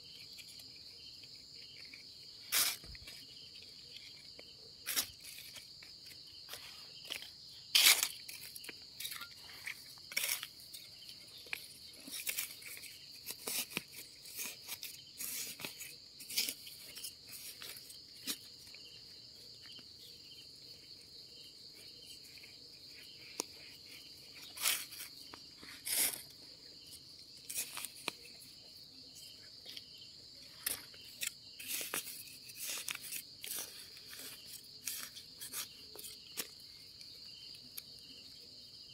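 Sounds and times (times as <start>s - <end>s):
crunching of dry leaves and twigs: 0.1s - 38.9s.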